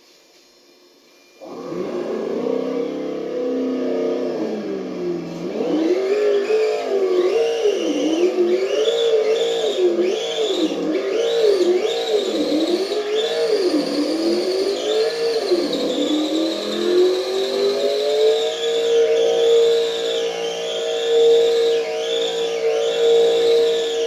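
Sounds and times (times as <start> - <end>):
high whine: 0.0 - 24.0
simulated car engine through speaker: 1.5 - 24.0.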